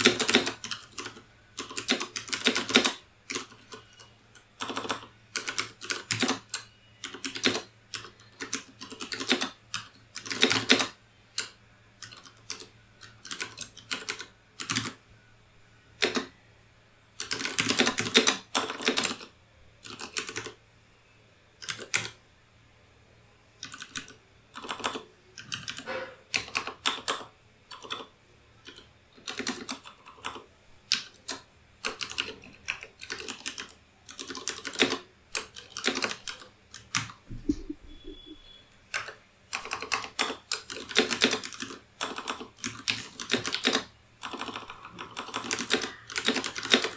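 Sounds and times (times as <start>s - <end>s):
typing on computer keyboard: 0.0s - 15.0s, 16.0s - 16.3s, 17.2s - 20.6s, 21.6s - 22.2s, 23.6s - 46.9s.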